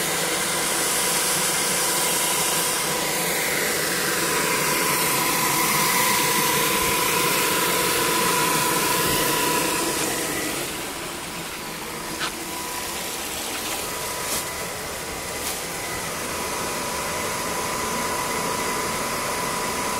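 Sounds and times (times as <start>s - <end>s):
generator high whine: 0.0s - 19.9s
turbine rushing noise: 2.0s - 19.6s.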